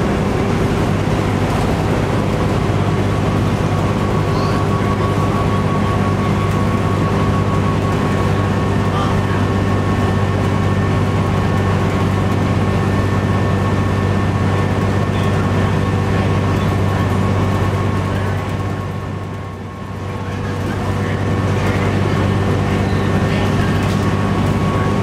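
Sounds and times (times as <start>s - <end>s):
diesel bus engine droning: 0.0s - 25.0s.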